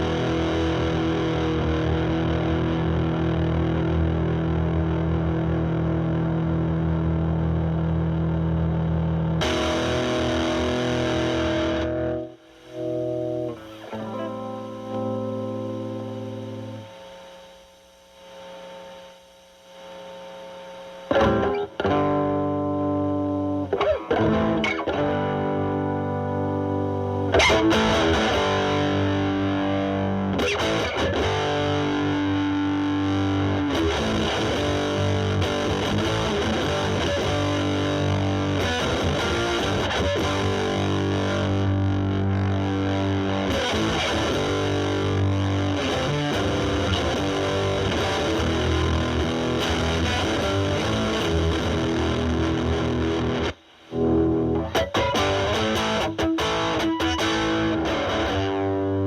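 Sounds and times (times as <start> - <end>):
amplifier low hum: 0.0 - 59.0
distorted electric guitar: 0.0 - 59.0.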